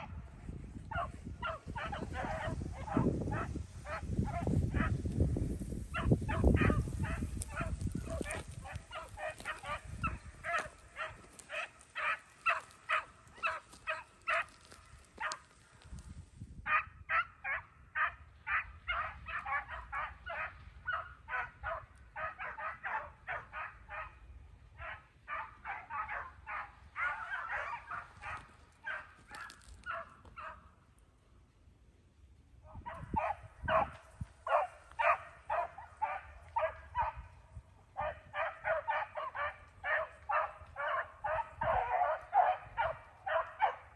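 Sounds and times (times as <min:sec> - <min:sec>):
dogs baying: 0:00.9 - 0:05.0, 0:06.0 - 0:15.5, 0:16.8 - 0:24.2, 0:24.8 - 0:30.7, 0:32.7 - 0:37.3, 0:38.0 - 0:43.9.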